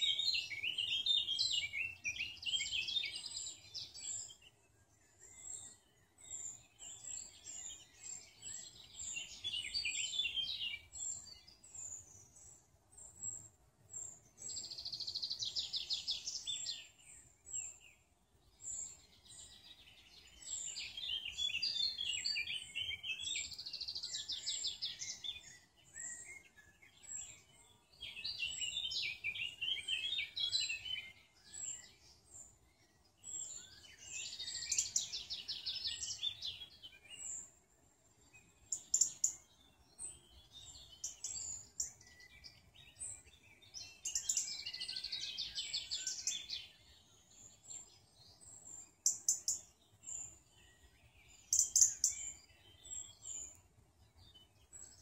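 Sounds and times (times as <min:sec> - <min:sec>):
bird song with fast trills: 0:00.0 - 0:55.0.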